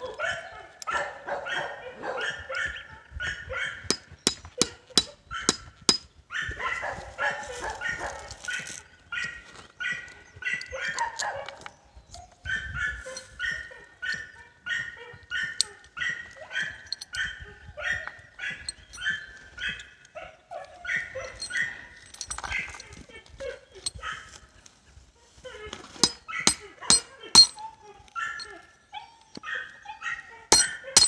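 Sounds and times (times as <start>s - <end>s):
dog barking: 0.0s - 5.6s, 6.3s - 24.4s, 25.4s - 31.0s.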